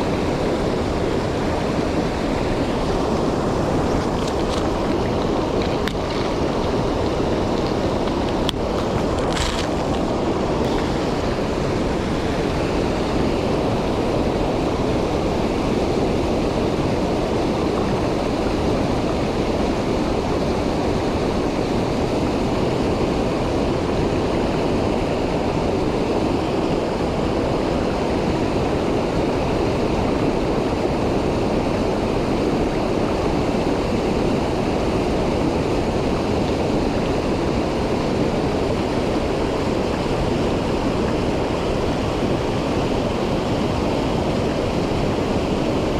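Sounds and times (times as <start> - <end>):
stream rushing over rocks: 0.0 - 45.9.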